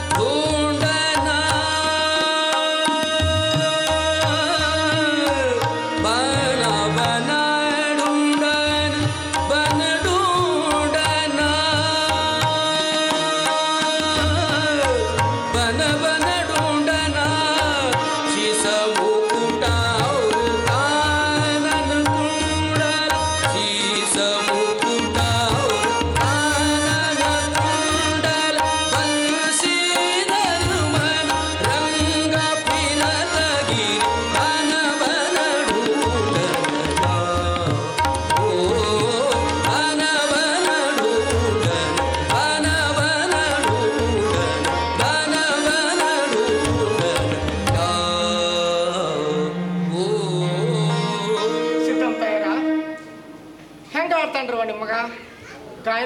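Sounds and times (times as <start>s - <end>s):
man singing: 0.0s - 53.0s
harmonium held notes: 0.0s - 53.8s.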